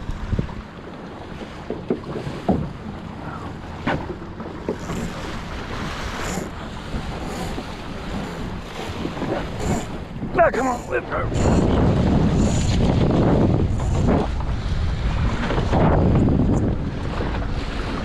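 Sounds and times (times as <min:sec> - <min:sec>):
hull knocking on waves: 0:00.0 - 0:18.0
water slapping against hull: 0:00.0 - 0:18.0
wind buffeting microphone: 0:00.0 - 0:18.0.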